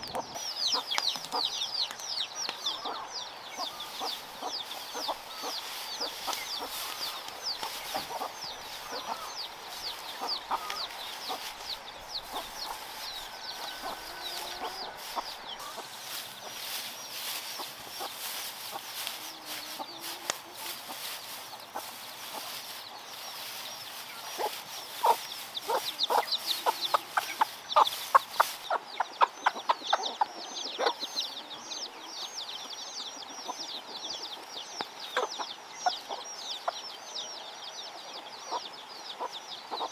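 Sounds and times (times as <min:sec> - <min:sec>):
chickens clucking: 0:00.0 - 0:37.2, 0:38.0 - 0:39.9
chicks peeping: 0:00.0 - 0:39.9.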